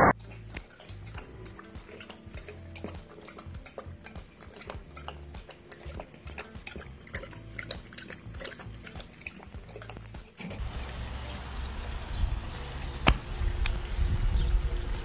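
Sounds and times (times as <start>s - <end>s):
background music: 0.0s - 15.0s
dog lapping water: 0.1s - 15.0s
running water fountain: 0.2s - 15.0s.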